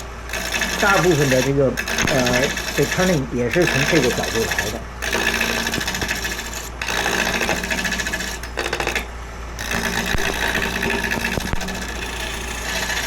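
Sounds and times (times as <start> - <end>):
gouge scraping spinning wood: 0.0 - 13.0
lathe humming: 0.0 - 13.0.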